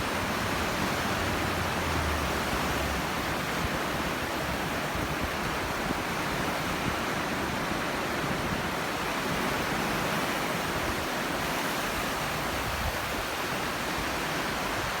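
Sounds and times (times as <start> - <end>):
waves breaking on shore: 0.0 - 15.0.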